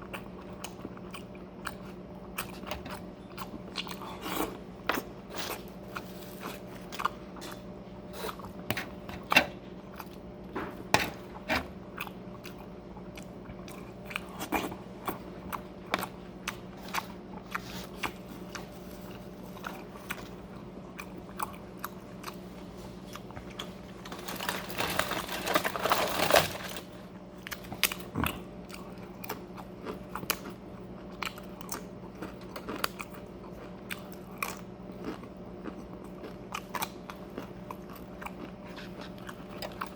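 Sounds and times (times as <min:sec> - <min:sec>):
person crunching and chewing: 0:00.0 - 0:10.2, 0:11.1 - 0:39.9.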